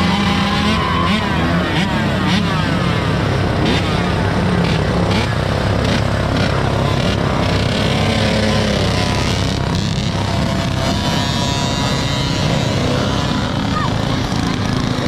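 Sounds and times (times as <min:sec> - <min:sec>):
dirt bike engines running: 0:00.0 - 0:15.0.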